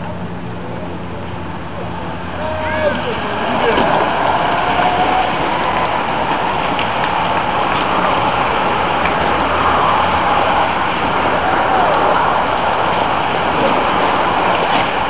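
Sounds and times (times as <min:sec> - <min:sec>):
bicycle tyres rushing on asphalt: 0:00.0 - 0:15.0.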